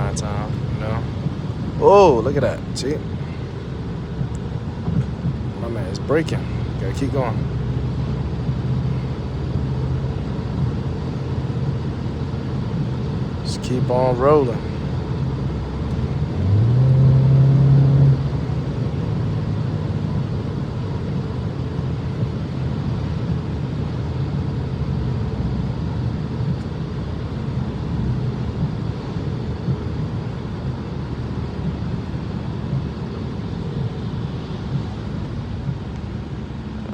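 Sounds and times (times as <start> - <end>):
car engine accelerating: 0.0 - 36.9
road noise on wet road: 0.0 - 36.9.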